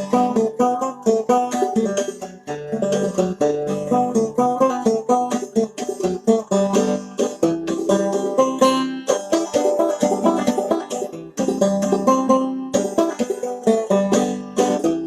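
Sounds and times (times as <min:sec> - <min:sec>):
banjo playing fast tune: 0:00.0 - 0:15.0.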